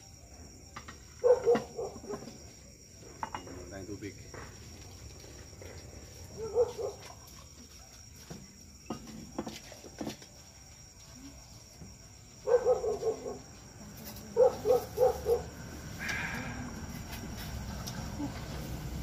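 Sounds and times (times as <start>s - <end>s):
insect chirring: 0.0s - 19.0s.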